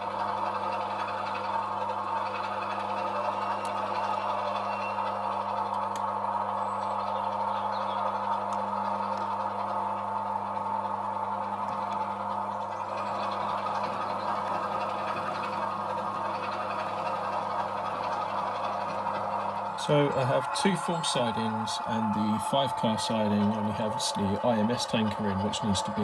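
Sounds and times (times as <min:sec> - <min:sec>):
model locomotive engine sound: 0:00.0 - 0:26.0.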